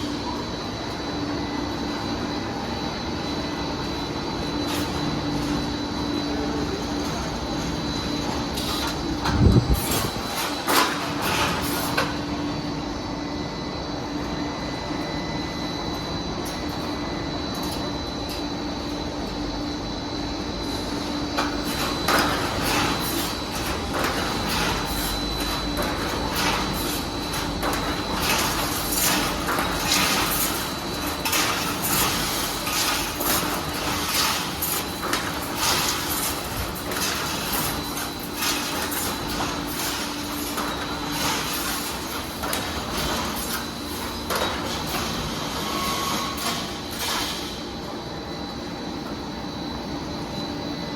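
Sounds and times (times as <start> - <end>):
welding machine running: 0.0 - 13.0, 15.8 - 49.9
thin high whine: 0.0 - 50.9.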